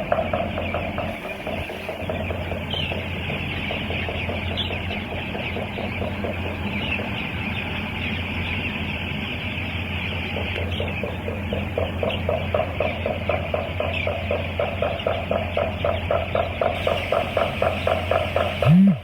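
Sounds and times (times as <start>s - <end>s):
chickens cheeping: 0.0s - 19.0s
steady low hum: 0.0s - 19.0s.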